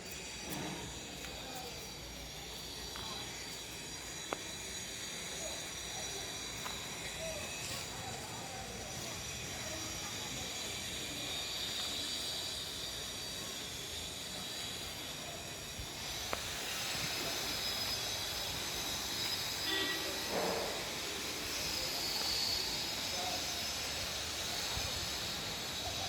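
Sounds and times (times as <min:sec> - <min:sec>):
steady hissing noise: 0:00.0 - 0:26.0.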